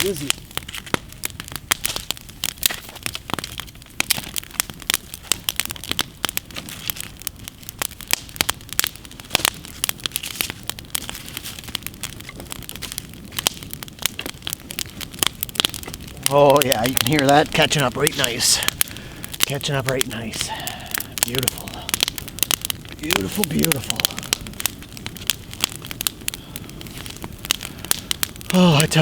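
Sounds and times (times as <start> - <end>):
low hiss of fire: 0.0 - 29.0
sticks popping and snapping: 0.0 - 29.0
wood fire crackling: 0.0 - 29.0.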